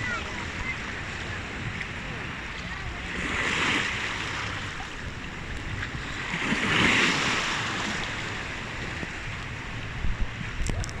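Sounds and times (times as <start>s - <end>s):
sea waves washing onto shore: 0.0s - 11.0s
wind buffeting microphone: 0.0s - 11.0s.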